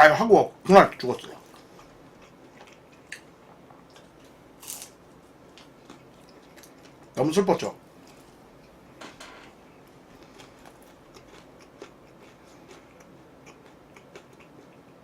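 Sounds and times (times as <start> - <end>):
soft chewing: 1.1 - 7.2, 7.9 - 8.8, 9.8 - 15.0.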